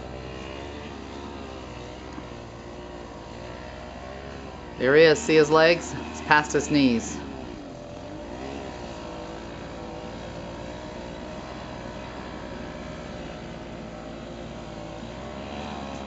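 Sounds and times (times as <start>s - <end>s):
snow blower engine running: 0.0s - 16.0s.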